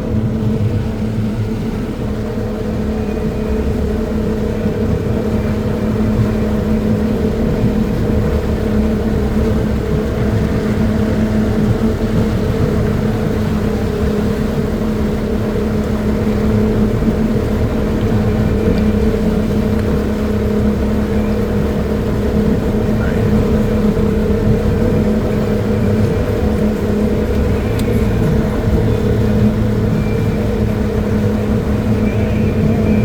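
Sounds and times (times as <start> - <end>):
motorboat engine droning: 0.0 - 33.0.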